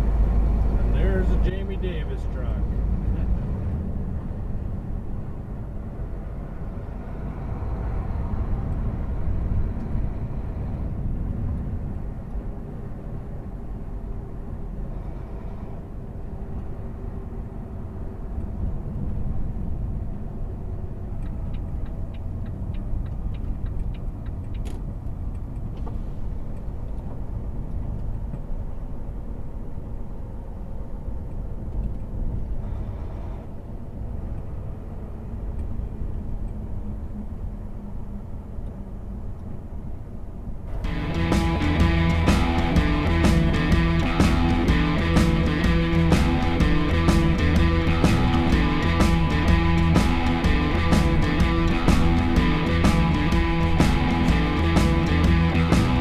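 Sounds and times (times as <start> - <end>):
truck engine deep rumble: 0.0 - 38.8, 40.7 - 56.0.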